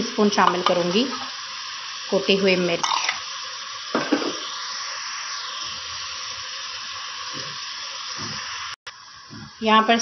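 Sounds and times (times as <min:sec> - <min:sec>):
beef and onions sizzling: 0:00.0 - 0:10.0.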